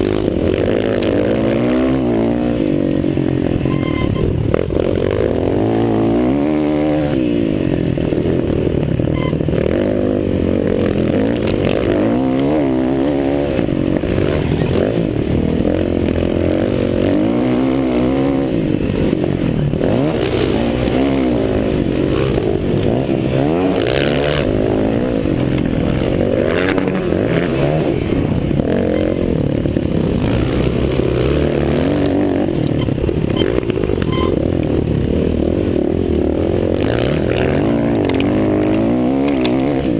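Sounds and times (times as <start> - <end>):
motocross bike engines racing: 0.0 - 39.9.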